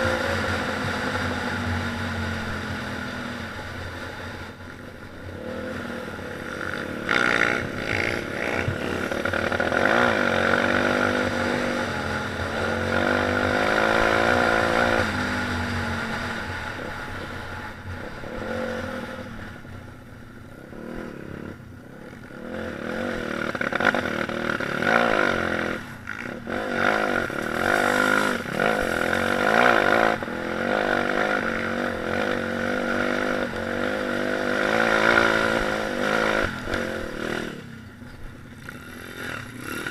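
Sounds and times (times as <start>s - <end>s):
pit bike engine revving: 5.2s - 19.6s, 20.6s - 37.8s, 38.5s - 39.9s.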